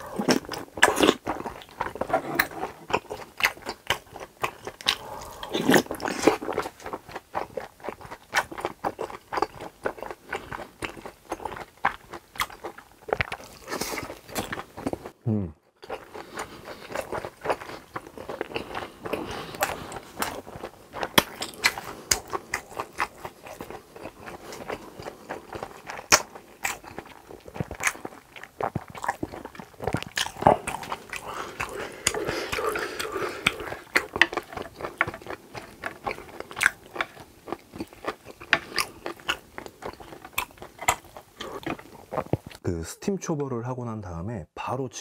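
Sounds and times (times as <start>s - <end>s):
wet chewing clicks and smacks: 0.0s - 15.2s, 15.8s - 42.6s.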